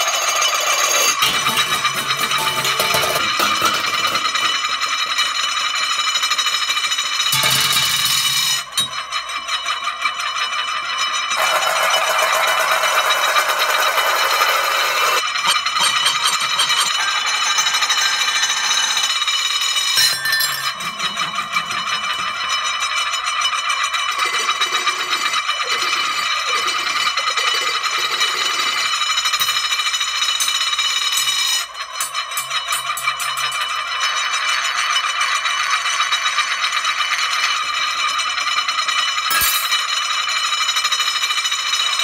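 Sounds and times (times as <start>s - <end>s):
metal kitchenware spinning and rattling: 0.0s - 42.0s.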